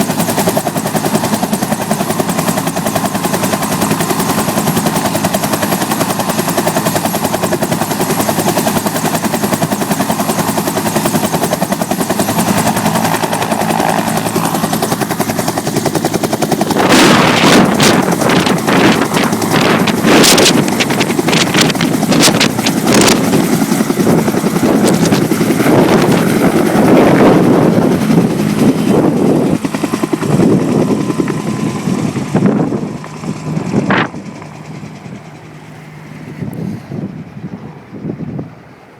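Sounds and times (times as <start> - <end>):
helicopter rotor slapping: 0.0 - 38.8.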